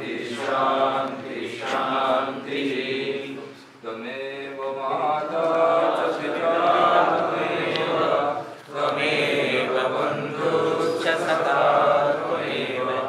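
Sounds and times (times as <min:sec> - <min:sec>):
voices chanting a mantra: 0:00.0 - 0:13.0.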